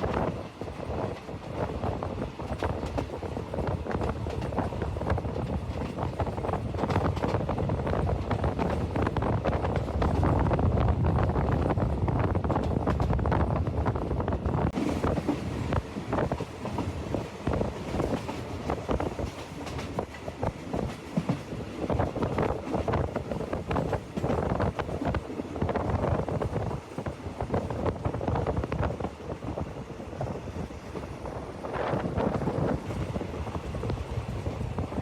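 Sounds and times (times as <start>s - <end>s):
train wheels clattering on track: 0.0s - 35.0s
wind buffeting microphone: 0.0s - 35.0s.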